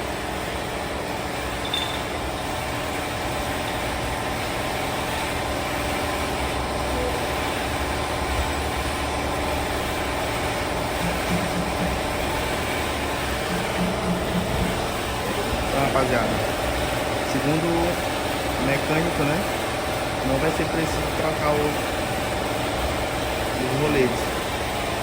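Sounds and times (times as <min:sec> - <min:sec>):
steady mechanical drone: 0:00.0 - 0:25.0.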